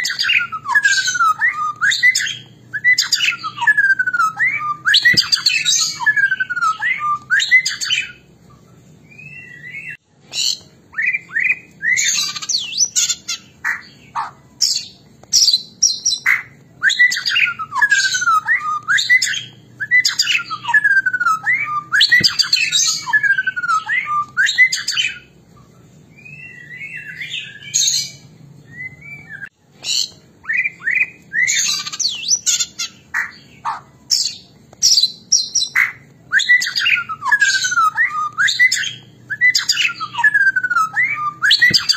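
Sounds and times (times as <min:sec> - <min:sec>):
bird singing whistles and squawks: 0:00.0 - 0:25.3, 0:26.1 - 0:41.9.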